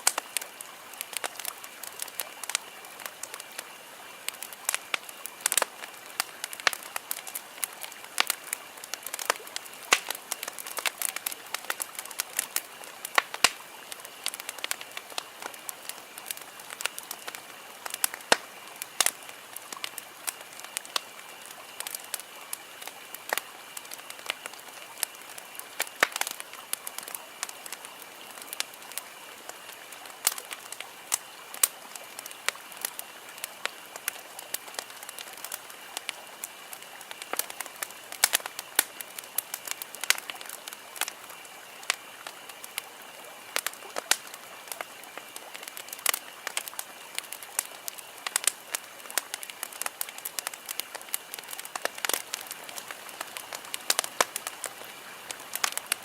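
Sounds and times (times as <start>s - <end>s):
campfire crackling and popping: 0.0s - 56.0s
steady hiss of burning: 0.0s - 56.0s.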